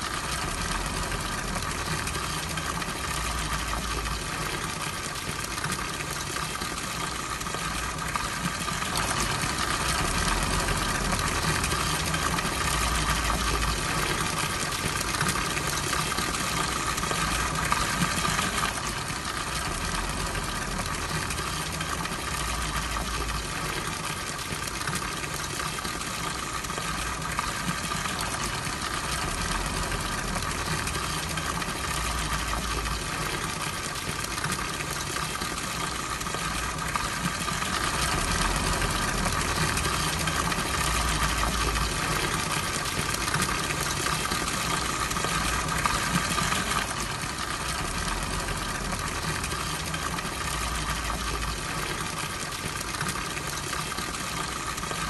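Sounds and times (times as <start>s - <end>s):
fountain water trickling: 0.0s - 55.0s.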